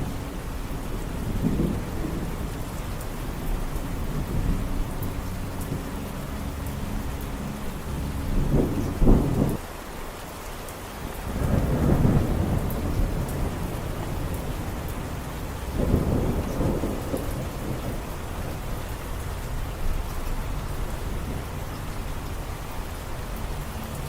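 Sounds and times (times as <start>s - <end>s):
thunder rumbling: 0.0s - 9.6s, 11.0s - 24.0s
steady rain: 0.0s - 24.0s.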